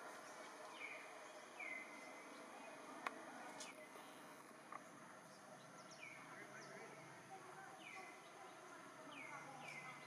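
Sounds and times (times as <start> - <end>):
faint bird chirps: 0.1 - 3.0, 4.8 - 10.0.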